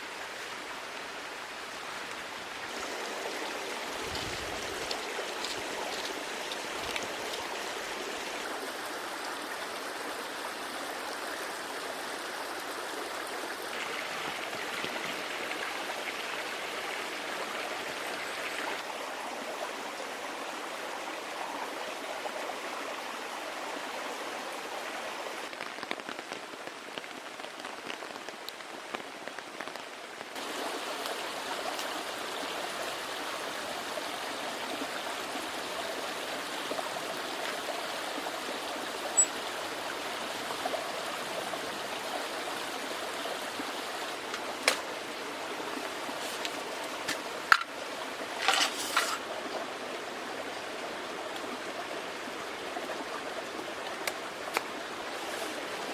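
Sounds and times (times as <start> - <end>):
small brook babbling: 0.0 - 55.9.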